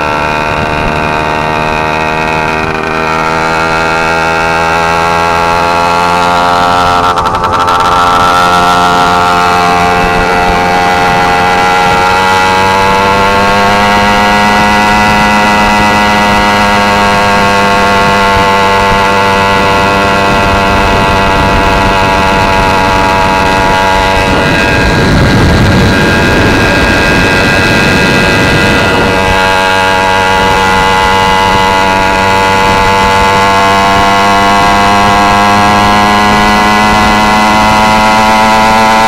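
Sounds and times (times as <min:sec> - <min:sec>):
two-stroke engine running: 0:00.0 - 0:39.0
wind buffeting microphone: 0:00.0 - 0:39.0.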